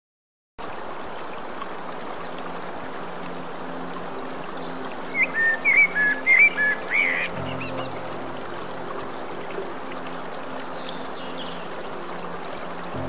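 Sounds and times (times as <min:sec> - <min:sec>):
fountain water splashing: 0:00.6 - 0:13.0.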